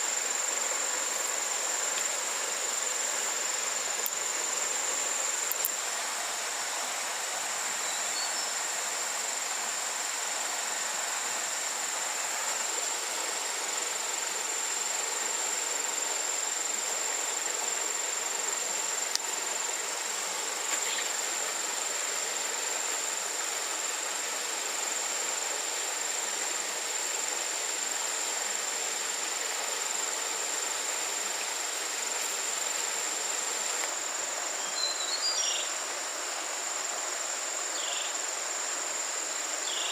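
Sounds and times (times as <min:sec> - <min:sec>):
even hiss: 0:00.0 - 0:39.9
insects droning: 0:00.0 - 0:39.9.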